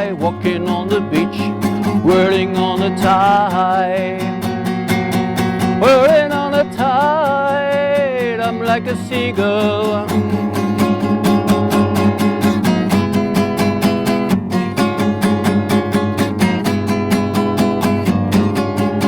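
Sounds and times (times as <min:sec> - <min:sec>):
guitar strumming: 0:00.0 - 0:19.0.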